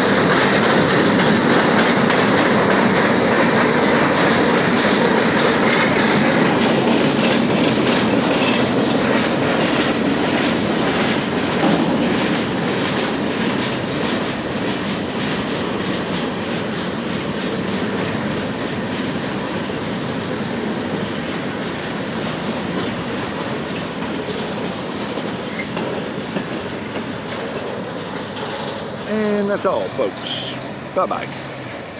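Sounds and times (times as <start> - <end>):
freight train rumbling past: 0.0 - 31.9
wheels clacking over rail joints: 0.0 - 31.9.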